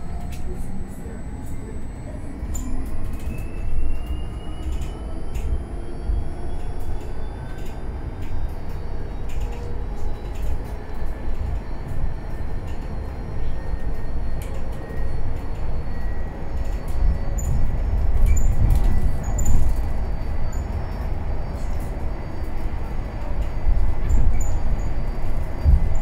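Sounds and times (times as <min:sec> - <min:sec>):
low rumble of tyres and road: 0:00.0 - 0:26.0
rattles and clicks of bus interior: 0:00.0 - 0:26.0.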